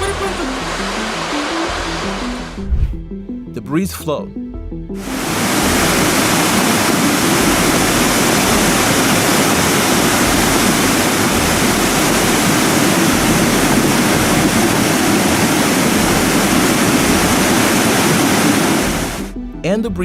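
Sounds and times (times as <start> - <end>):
rush of muddy water and debris: 0.0 - 2.6, 5.0 - 19.3.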